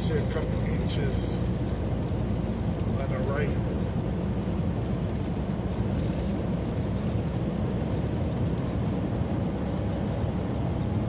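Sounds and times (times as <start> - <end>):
truck cab road and engine rumble: 0.0 - 11.0.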